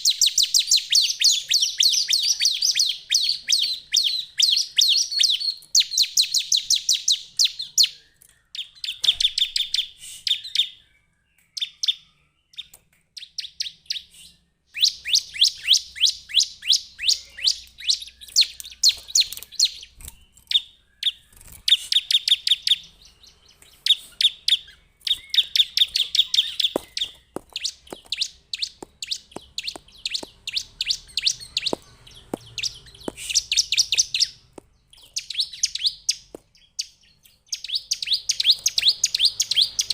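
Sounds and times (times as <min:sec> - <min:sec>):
bird singing sharp high chirps: 0:00.0 - 0:39.9.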